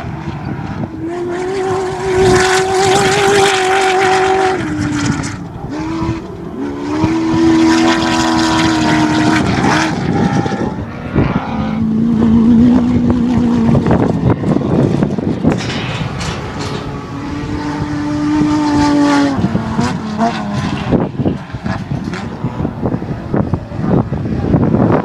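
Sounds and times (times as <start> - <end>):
race vehicle engines running hard: 0.0 - 25.0.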